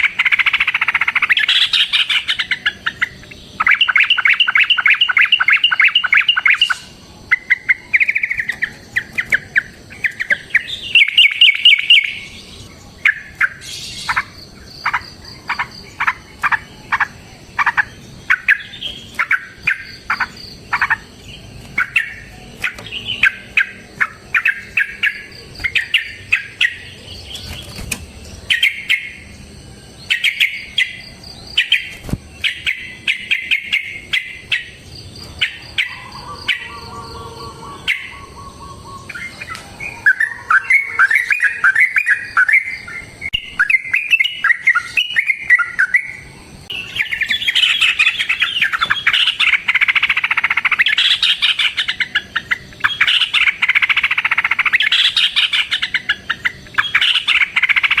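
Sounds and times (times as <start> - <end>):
bird chirping and chattering: 0.0 - 58.0.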